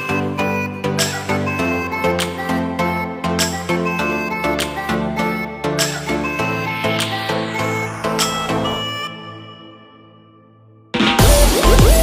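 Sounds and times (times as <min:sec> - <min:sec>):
loud electronic dance music: 0:00.0 - 0:09.5, 0:11.0 - 0:12.0
melodic music held notes: 0:00.0 - 0:12.0.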